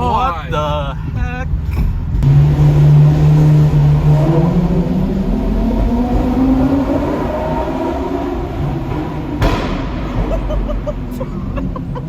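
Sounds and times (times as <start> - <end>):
sports car engine from cabin: 1.7 - 12.0.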